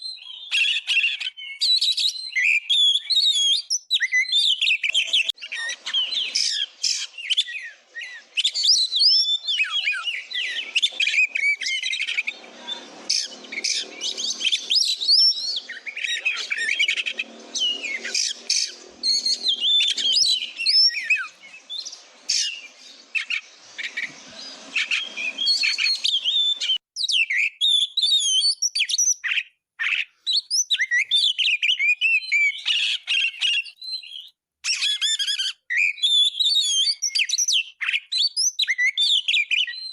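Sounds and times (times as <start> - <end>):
songbird singing whistles and chirps: 0.0 - 39.9.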